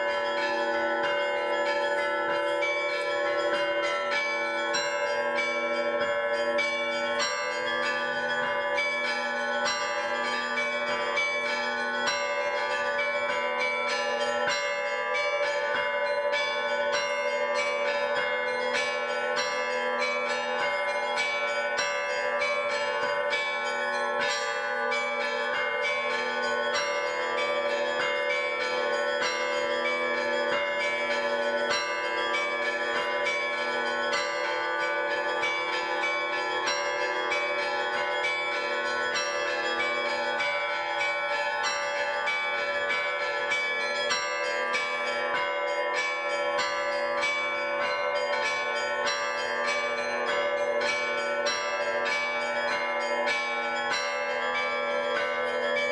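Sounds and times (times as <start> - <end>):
large bells ringing low tones: 0.0 - 55.9.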